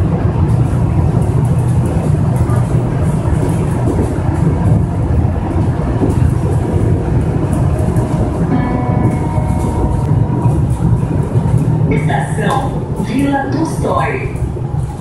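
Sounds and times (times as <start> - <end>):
monorail train rumbling: 0.0 - 15.0.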